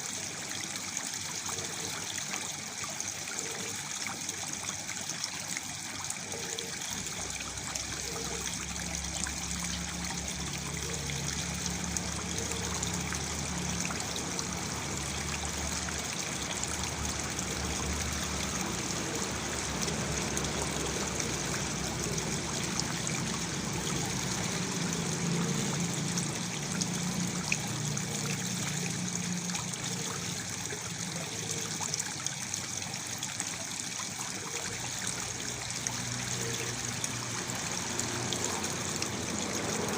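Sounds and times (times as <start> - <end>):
waterfall splashing into pool: 0.0 - 39.9.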